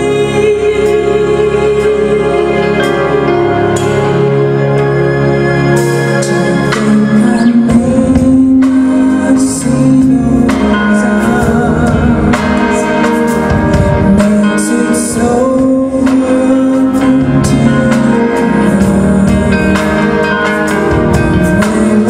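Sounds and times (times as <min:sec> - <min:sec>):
person singing: 0:00.0 - 0:04.8, 0:05.9 - 0:22.0
live band playing: 0:00.0 - 0:22.0.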